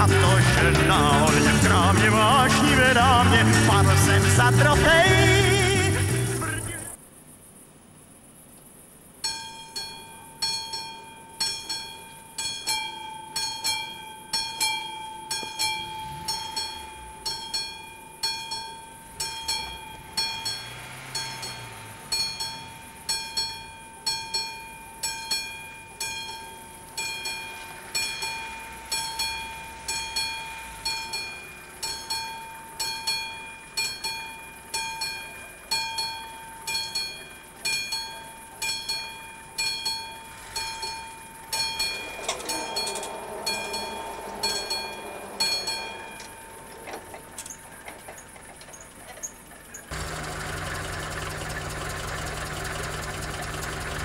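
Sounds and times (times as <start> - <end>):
level crossing warning bell: 9.2 - 54.0.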